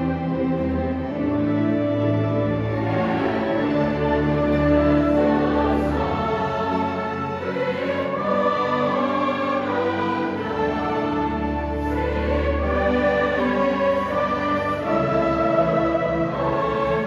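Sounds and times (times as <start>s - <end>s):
choir singing: 0.0s - 17.0s
orchestra playing: 0.0s - 17.0s.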